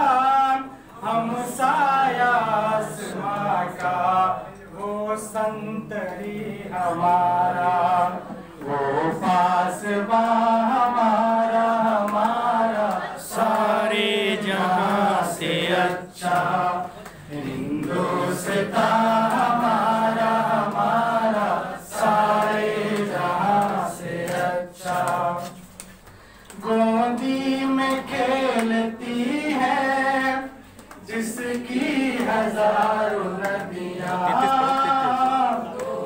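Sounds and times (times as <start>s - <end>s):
man singing unaccompanied: 0.0s - 25.4s, 26.6s - 36.0s.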